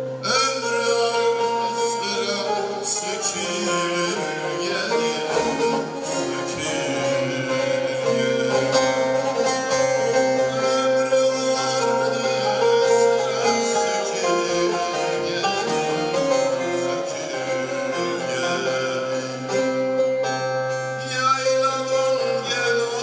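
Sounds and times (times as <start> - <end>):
long-necked lute strummed: 0.0 - 23.0
man singing folk song: 0.0 - 23.0.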